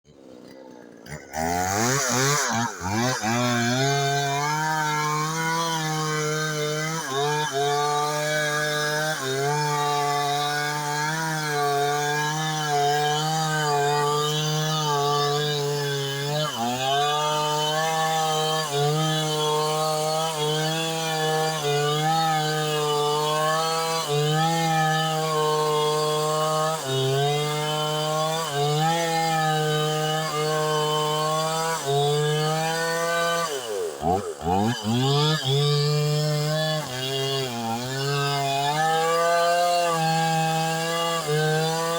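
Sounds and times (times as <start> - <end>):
chainsaw cutting wood: 0.1 - 41.9.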